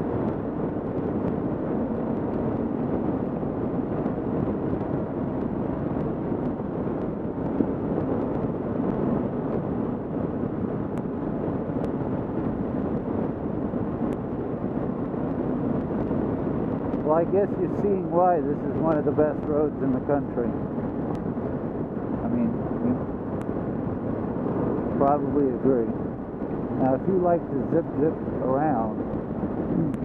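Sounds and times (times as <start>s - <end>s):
wind rushing over camera: 0.0s - 30.0s.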